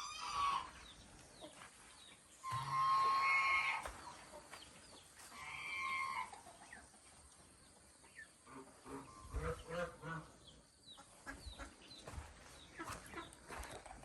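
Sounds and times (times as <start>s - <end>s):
poultry calling: 0.0s - 1.7s, 2.4s - 4.6s, 5.2s - 6.9s, 8.1s - 13.8s.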